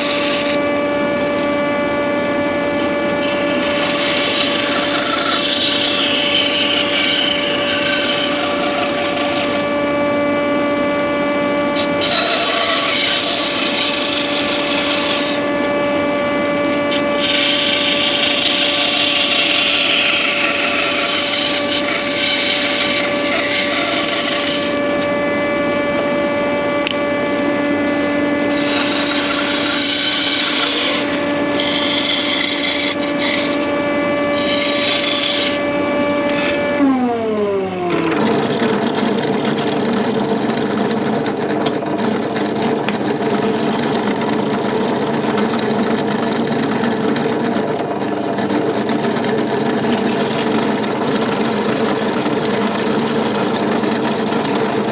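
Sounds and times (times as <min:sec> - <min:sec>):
electric saw cutting wood: 0:00.0 - 0:54.9
steady machine noise: 0:00.0 - 0:54.9.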